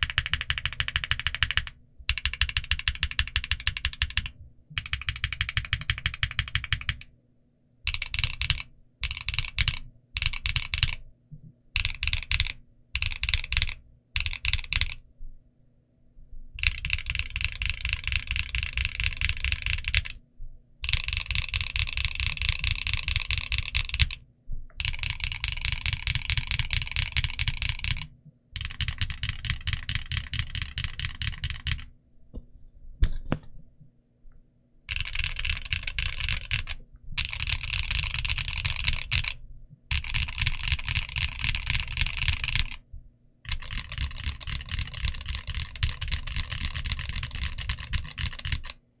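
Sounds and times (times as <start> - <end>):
mechanical keyboard typing: 0.0 - 7.1, 7.9 - 11.0, 11.8 - 15.0, 16.6 - 20.2, 20.8 - 24.2, 24.8 - 31.9, 34.9 - 42.8, 43.5 - 48.8.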